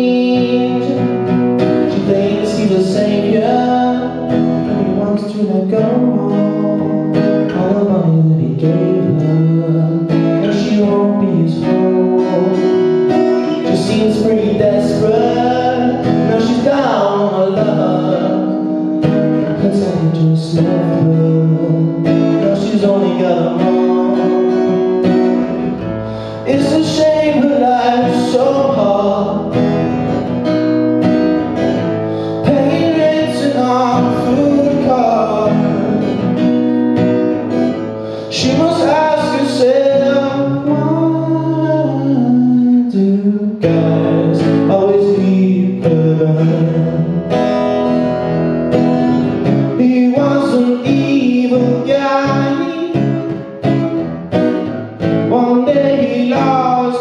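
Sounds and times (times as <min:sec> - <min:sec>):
man singing: 0:00.0 - 0:30.6, 0:31.4 - 0:36.7, 0:37.4 - 0:57.0
strummed acoustic guitar: 0:00.0 - 0:57.0.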